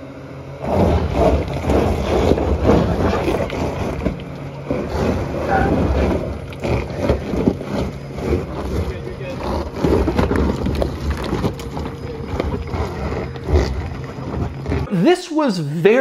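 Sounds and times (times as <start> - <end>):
tyres crunching over rock: 0.6 - 14.9.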